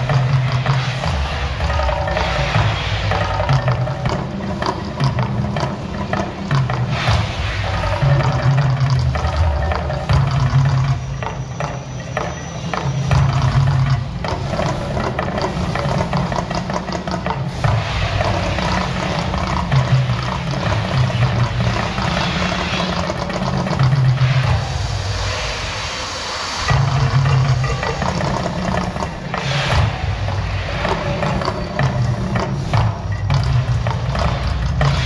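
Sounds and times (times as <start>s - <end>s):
loud show music: 0.0s - 35.0s.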